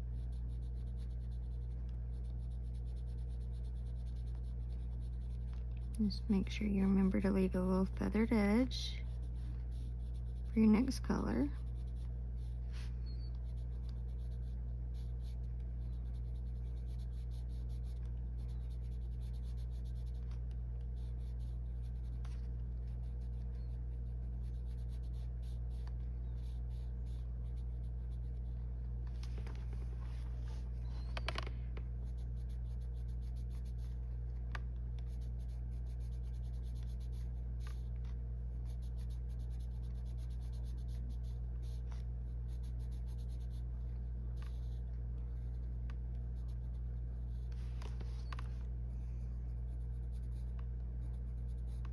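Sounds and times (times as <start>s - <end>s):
colored pencil scratching on paper: 0.0s - 34.0s, 35.0s - 48.6s, 49.5s - 51.9s
steady low hum: 0.0s - 51.9s.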